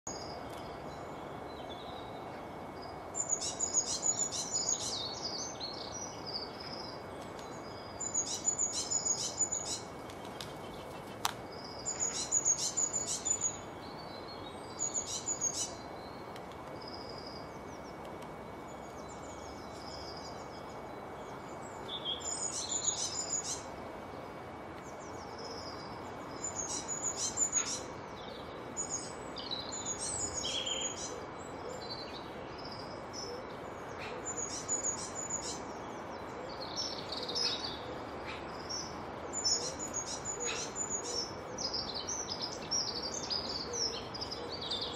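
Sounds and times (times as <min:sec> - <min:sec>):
songbirds chirping and trilling: 0:00.1 - 0:44.9
steady background hiss: 0:00.1 - 0:44.9.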